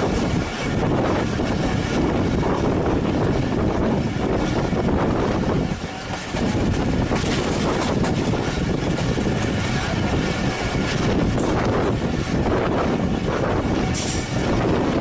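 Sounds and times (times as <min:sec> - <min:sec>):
train wheels rumbling on track: 0:00.0 - 0:15.0
wind on microphone: 0:00.0 - 0:15.0.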